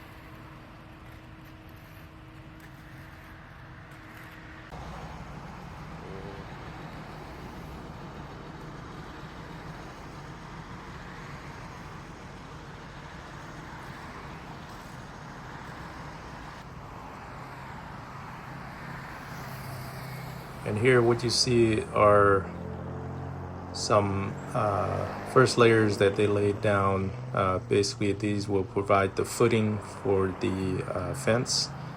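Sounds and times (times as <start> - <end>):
engine humming: 0.0 - 31.9
outdoor noise: 0.0 - 31.9.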